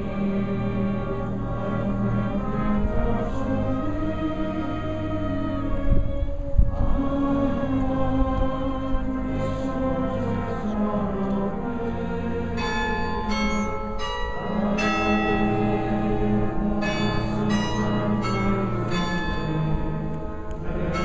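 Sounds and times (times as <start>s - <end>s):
brass band playing hymn: 0.0s - 21.0s.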